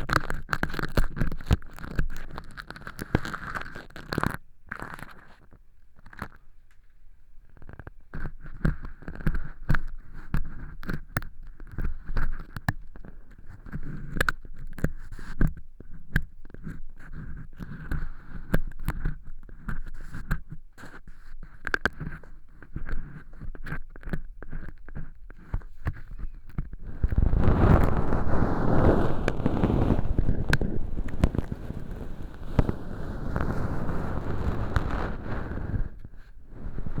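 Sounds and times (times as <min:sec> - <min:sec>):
ear pick scraping fake earwax: 0:00.0 - 0:06.4, 0:07.6 - 0:37.0.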